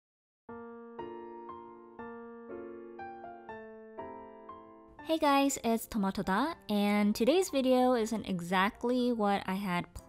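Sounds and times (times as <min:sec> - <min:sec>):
gentle background melody: 0:00.5 - 0:10.0.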